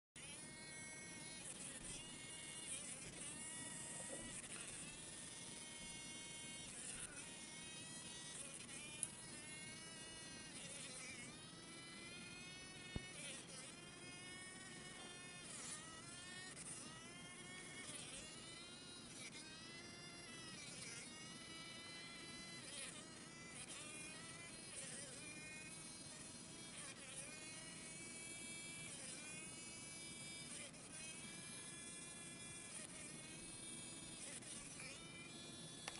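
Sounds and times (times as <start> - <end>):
fly buzzing: 0.2 - 35.9.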